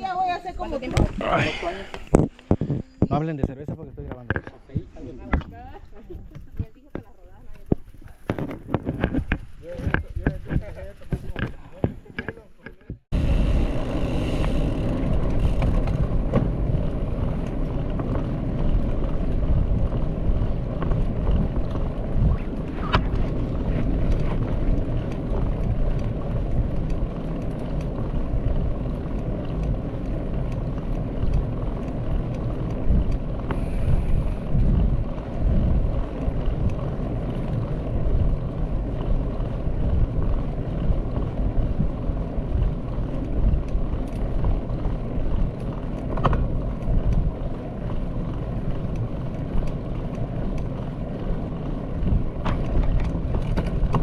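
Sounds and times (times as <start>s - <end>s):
wind buffeting microphone: 0.0s - 12.3s, 12.9s - 54.0s.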